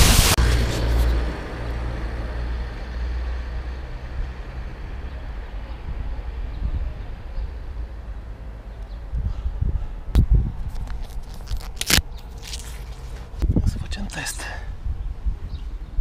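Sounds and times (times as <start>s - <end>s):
faint street background: 0.0s - 16.0s.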